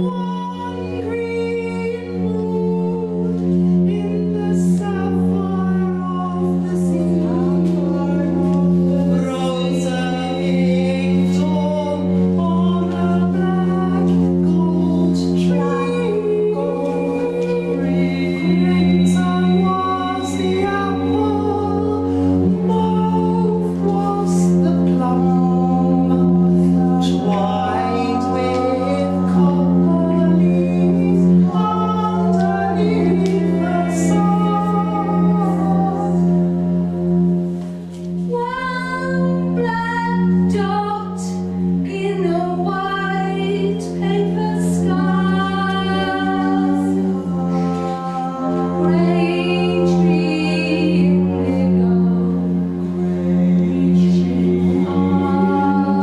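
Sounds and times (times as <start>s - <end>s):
electric violin bowed: 0.0s - 56.0s
steady low drone: 0.0s - 56.0s
woman singing long notes: 0.0s - 56.0s.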